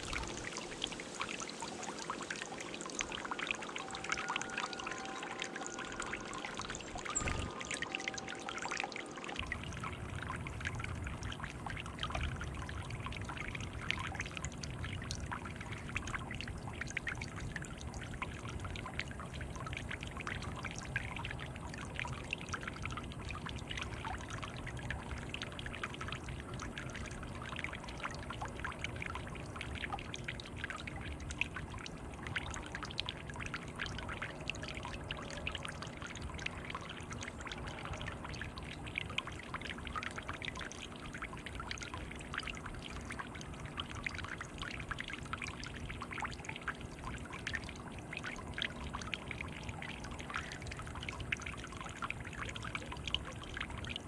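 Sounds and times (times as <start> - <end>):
fountain water bubbling and splashing: 0.0 - 54.0.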